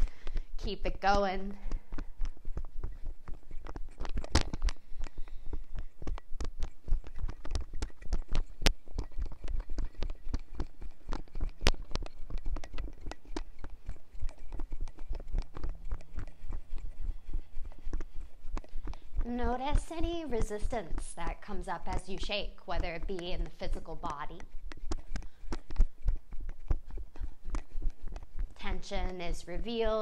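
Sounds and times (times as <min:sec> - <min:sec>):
lapel microphone thumps and rubbing: 0:00.0 - 0:30.0.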